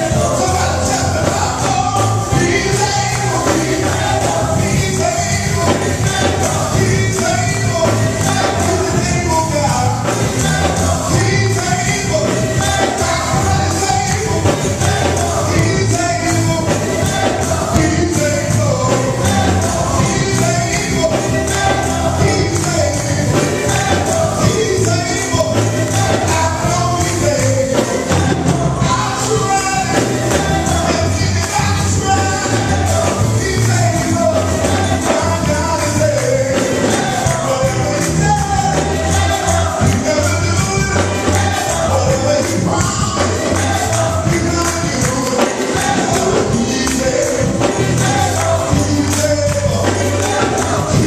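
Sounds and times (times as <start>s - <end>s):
choir singing gospel music: 0.0s - 51.0s
instrumental accompaniment: 0.0s - 51.0s
percussion beat: 0.0s - 51.0s.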